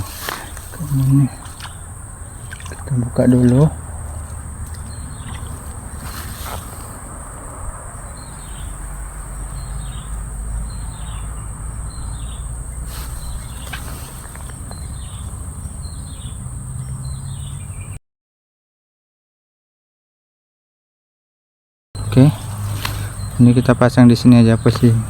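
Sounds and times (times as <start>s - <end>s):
insects droning: 0.0s - 18.0s, 22.0s - 25.0s.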